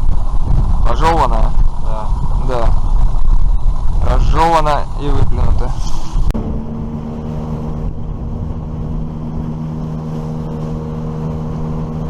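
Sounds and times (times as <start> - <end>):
outboard motor running steadily: 0.0 - 12.0.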